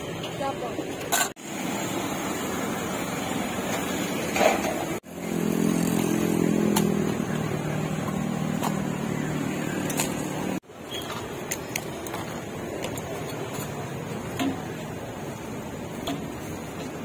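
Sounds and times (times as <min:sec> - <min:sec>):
street noise: 0:00.0 - 0:17.0
vehicle engine humming: 0:01.4 - 0:17.0.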